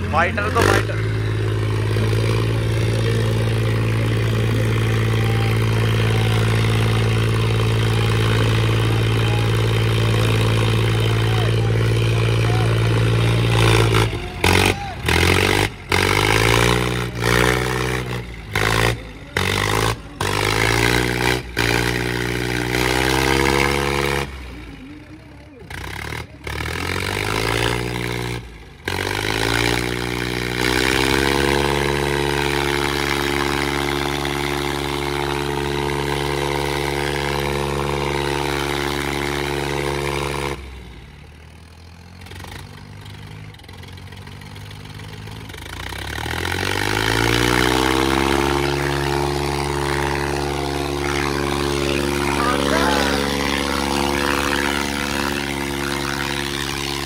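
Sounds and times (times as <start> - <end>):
tractor diesel engines revving: 0.0 - 57.0.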